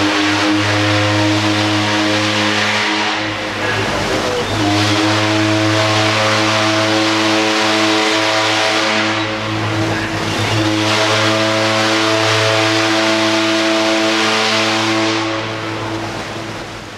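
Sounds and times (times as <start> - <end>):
deep ship's whistle blast: 0.0 - 16.5.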